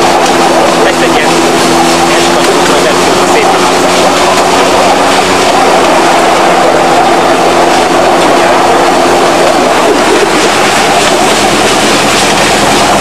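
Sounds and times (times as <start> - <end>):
rail wheels rumbling and rattling: 0.0 - 13.0
steady hum: 0.0 - 13.0.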